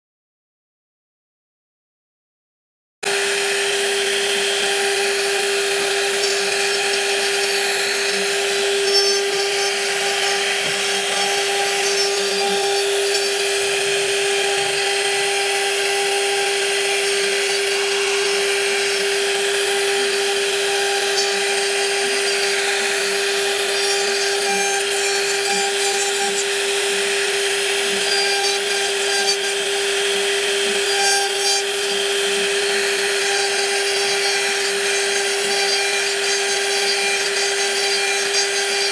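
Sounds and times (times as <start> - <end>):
power saw cutting wood: 3.0 - 38.9.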